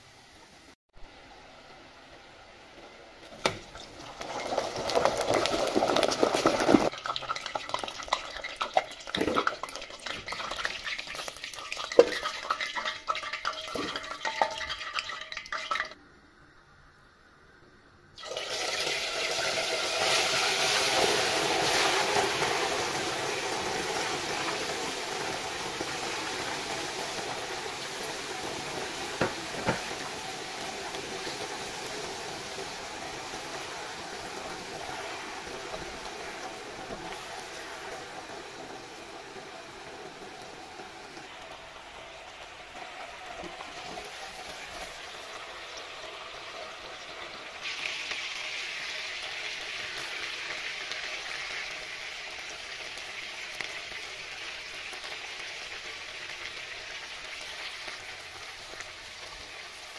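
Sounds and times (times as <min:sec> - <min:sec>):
food deep-frying in hot oil: 0:00.0 - 0:16.0, 0:18.2 - 0:59.9.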